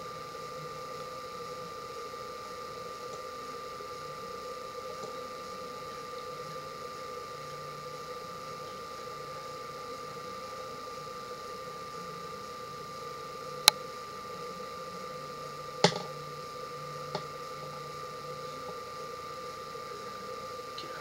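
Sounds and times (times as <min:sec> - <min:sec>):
room hum with constant tone: 0:00.0 - 0:21.0.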